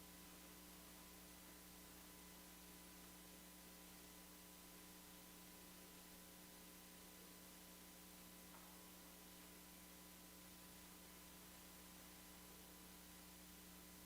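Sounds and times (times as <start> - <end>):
faint electrical hum and hiss: 0.0 - 14.0.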